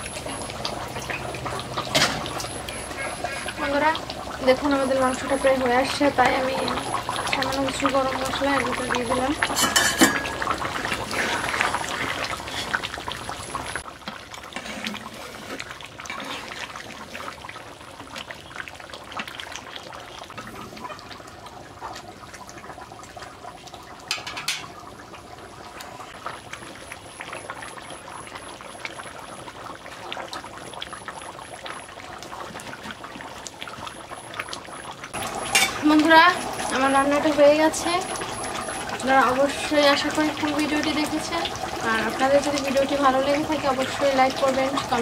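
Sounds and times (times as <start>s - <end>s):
thick curry bubbling and popping: 0.0s - 45.0s.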